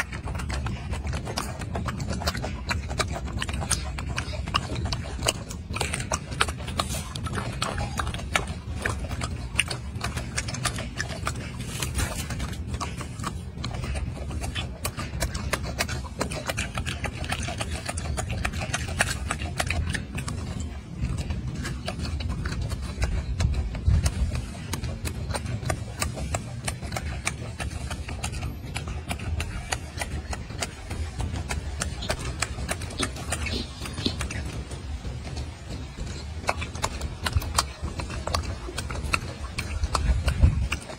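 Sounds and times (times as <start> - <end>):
low rumble: 0.0 - 40.9
monkey chewing with wet clicks: 0.0 - 40.9.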